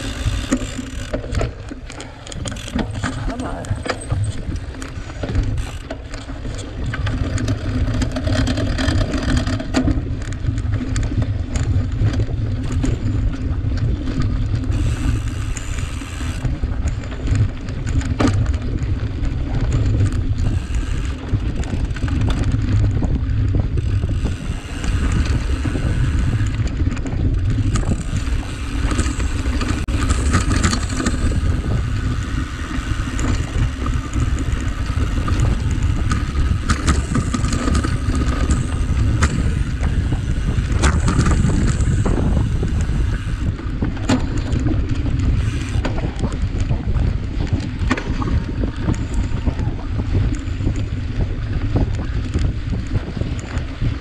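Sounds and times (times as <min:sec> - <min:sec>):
bike rattles and clicks: 0:00.0 - 0:54.0
bike tyres rumbling on dirt: 0:00.0 - 0:54.0.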